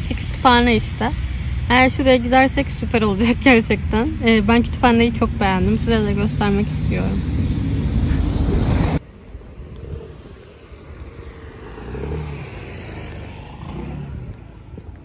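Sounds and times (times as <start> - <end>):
traffic noise: 0.0 - 15.0
vehicle engine passing: 0.0 - 15.0.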